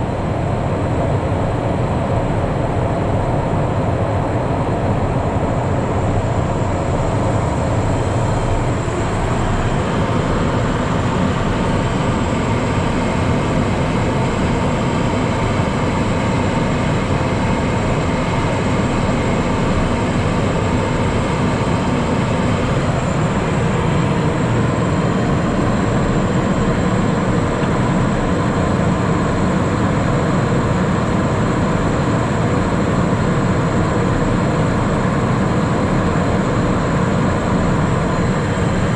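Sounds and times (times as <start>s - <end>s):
airflow rush in jet cabin: 0.0s - 38.9s
jet engine whine: 0.0s - 38.9s.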